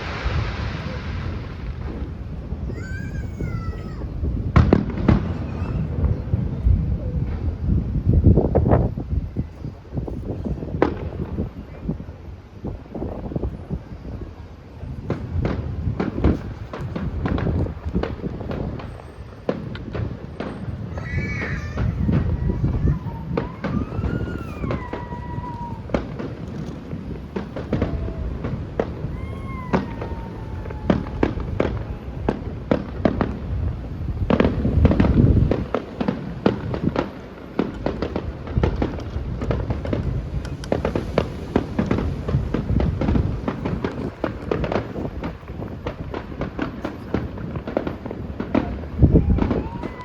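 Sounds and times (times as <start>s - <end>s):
fireworks booms and crackling: 0.0s - 50.0s.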